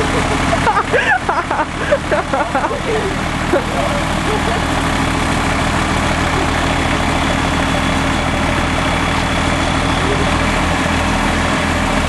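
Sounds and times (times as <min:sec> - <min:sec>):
tractor diesel engine under load: 0:00.0 - 0:12.0
truck diesel engine running: 0:00.0 - 0:12.0.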